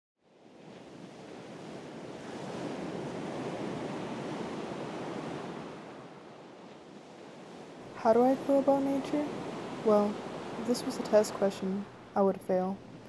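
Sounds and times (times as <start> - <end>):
ocean surf washing ashore: 0.2 - 13.0.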